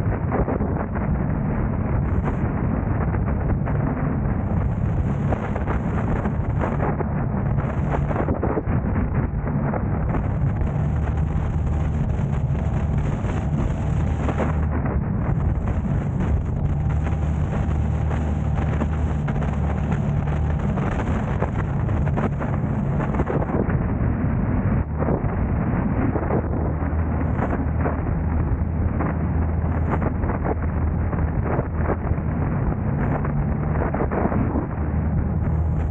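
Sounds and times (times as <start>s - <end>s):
faint engine hum: 0.0s - 35.9s
road noise rumble: 0.0s - 35.9s
wind buffeting microphone: 0.0s - 35.9s.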